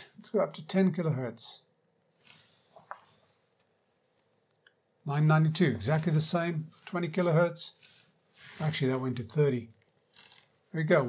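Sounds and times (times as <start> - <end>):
faint soft hiss: 0.0 - 11.0.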